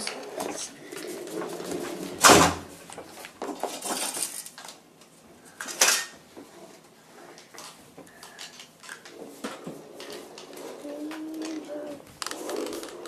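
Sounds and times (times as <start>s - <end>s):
hard toy clattering: 0.0s - 4.8s, 7.2s - 13.0s.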